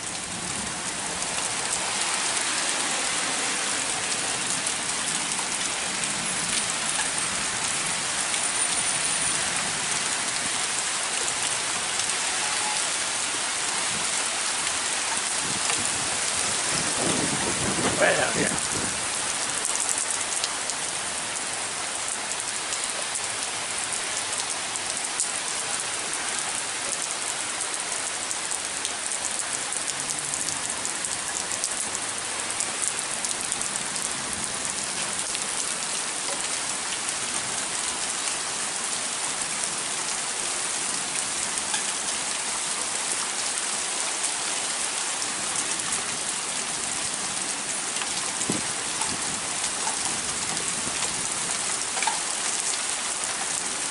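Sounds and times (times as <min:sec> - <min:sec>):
heavy rain: 0:00.0 - 0:53.9
raindrops ticking on surface: 0:00.0 - 0:53.9.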